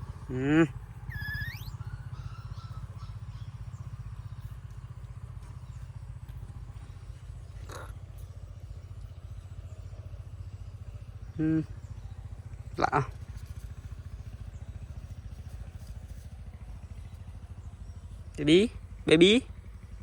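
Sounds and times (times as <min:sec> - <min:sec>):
pulsing motor hum: 0:00.0 - 0:20.0.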